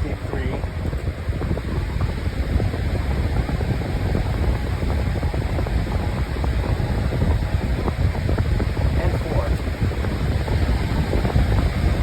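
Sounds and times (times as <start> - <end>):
fan air rushing into microphone: 0.0 - 12.0.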